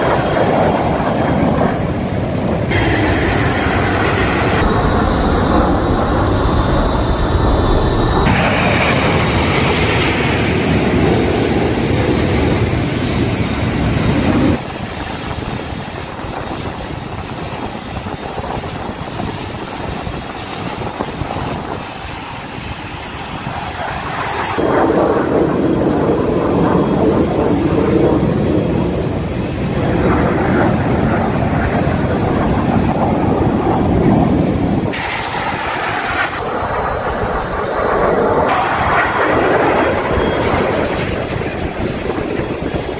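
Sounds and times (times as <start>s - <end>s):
aircraft engine noise: 0.0s - 42.9s.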